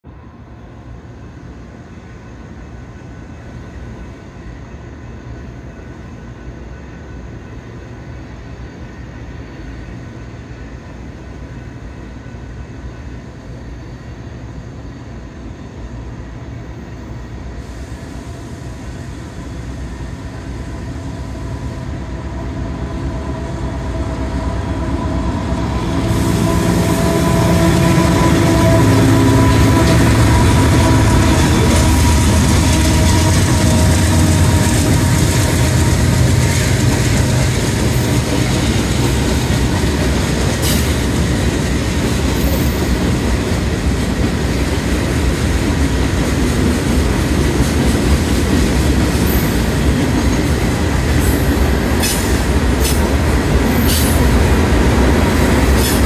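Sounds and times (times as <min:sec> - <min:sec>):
freight train rumble: 0:00.0 - 0:56.0
train whining tones: 0:02.9 - 0:56.0.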